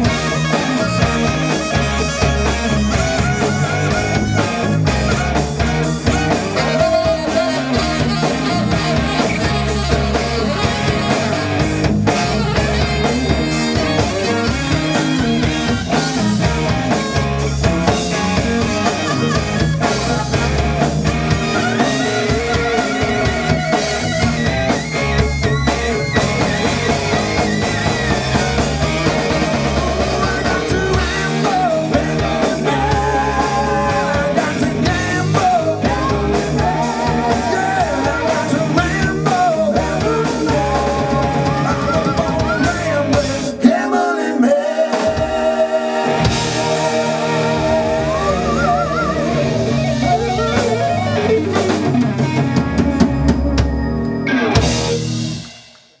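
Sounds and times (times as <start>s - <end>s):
harmonica: 0.0s - 43.5s, 44.5s - 55.2s
saxophone: 0.0s - 43.6s, 44.9s - 55.5s
bass guitar: 0.0s - 56.0s
drums: 0.0s - 56.0s
electric guitar: 0.0s - 56.0s.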